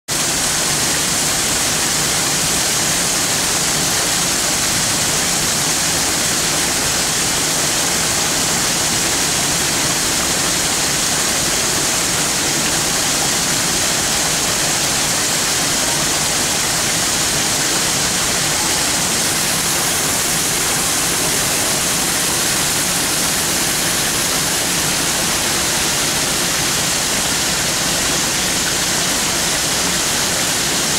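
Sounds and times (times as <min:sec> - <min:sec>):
water falling over rocks: 0:00.1 - 0:30.9.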